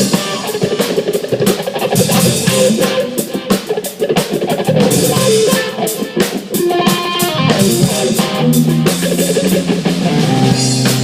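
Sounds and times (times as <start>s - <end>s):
drum kit beat: 0.0s - 11.0s
electric guitar: 0.0s - 11.0s.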